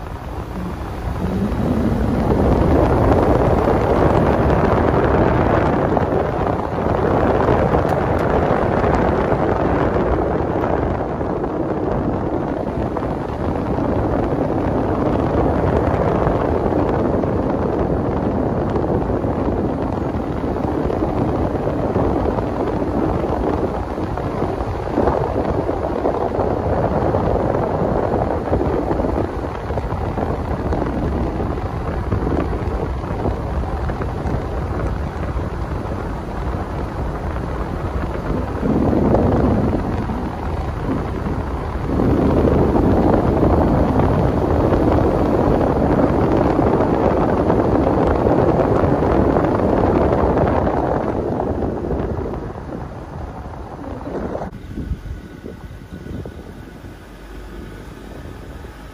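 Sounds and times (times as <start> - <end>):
road noise: 0.0 - 58.9
wind noise: 0.0 - 58.9.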